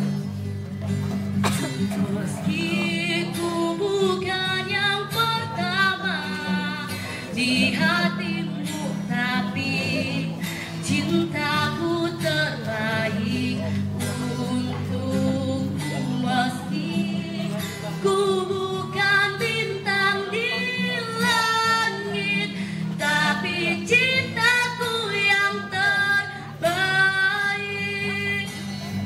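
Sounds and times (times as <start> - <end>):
woman singing into a microphone: 1.5 - 29.0.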